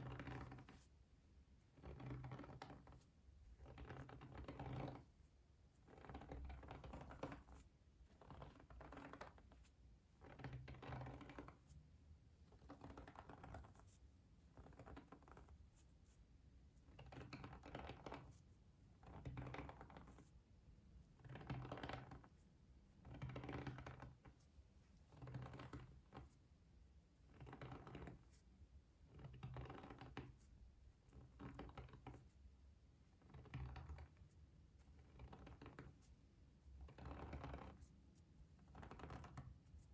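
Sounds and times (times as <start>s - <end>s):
faint tapping and scratching: 0.0s - 11.8s, 12.4s - 39.9s.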